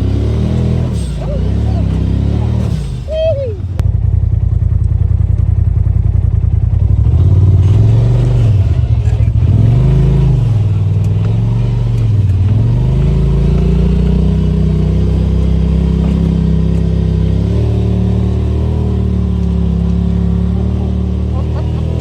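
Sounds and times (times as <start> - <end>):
utility vehicle engine running: 0.0 - 22.0.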